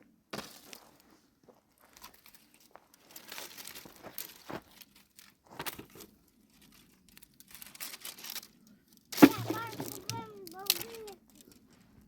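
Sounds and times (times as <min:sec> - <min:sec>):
rustling and crinkling: 0:00.3 - 0:12.0
small crackles: 0:00.6 - 0:12.0.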